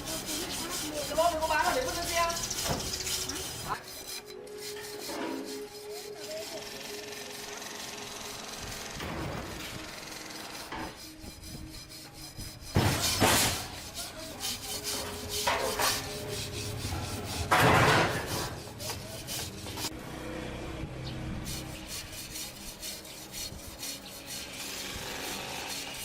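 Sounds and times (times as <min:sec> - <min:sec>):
scraping strokes: 0:00.0 - 0:20.0, 0:21.4 - 0:26.0.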